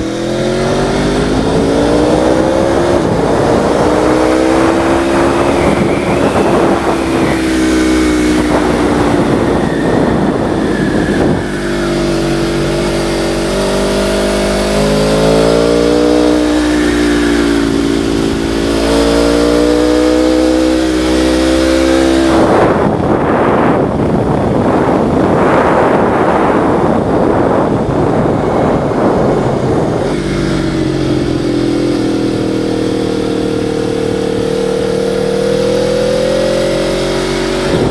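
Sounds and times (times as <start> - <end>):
vehicle engine revving: 0.0 - 37.9
wind rushing over microphone: 0.0 - 37.9.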